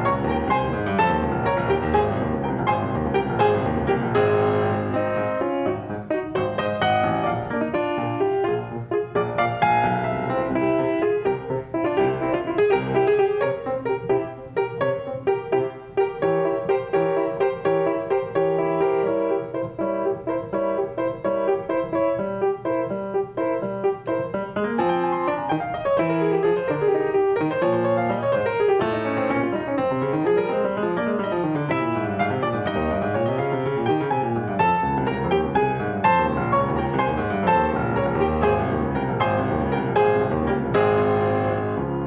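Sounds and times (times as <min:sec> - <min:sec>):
piano playing: 0:00.0 - 0:42.0.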